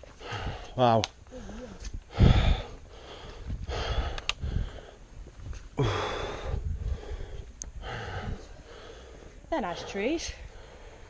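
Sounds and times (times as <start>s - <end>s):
person breathing heavily: 0.0s - 5.1s, 5.7s - 11.0s.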